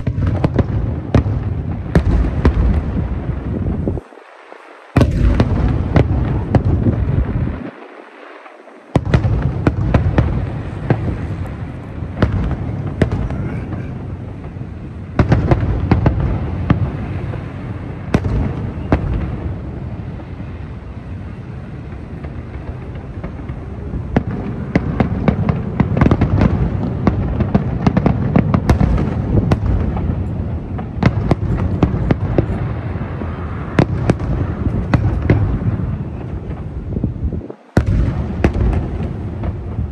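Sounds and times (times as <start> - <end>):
fireworks bangs and crackling: 0.0 - 39.9
low rumble of fireworks bursts: 0.0 - 39.9.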